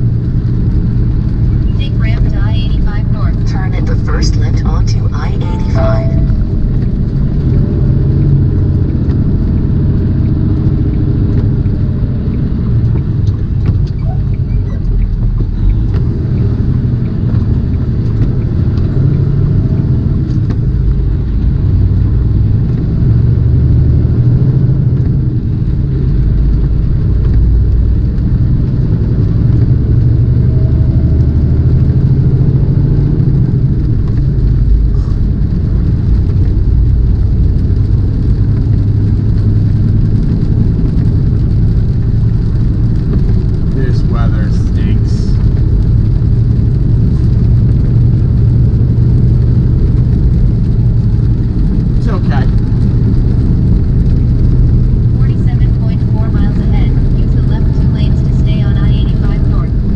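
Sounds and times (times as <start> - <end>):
road noise: 0.0 - 59.9
truck diesel engine rumble: 0.0 - 59.9.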